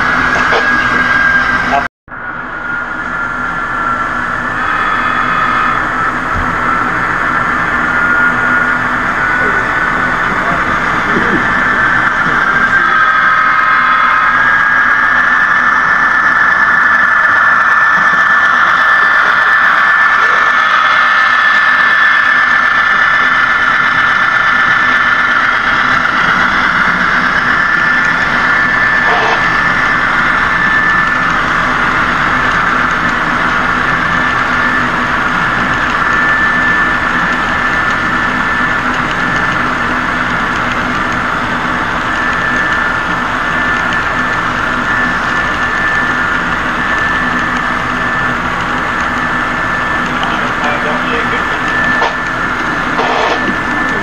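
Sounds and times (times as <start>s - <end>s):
model train droning with high whine: 0.0s - 54.0s.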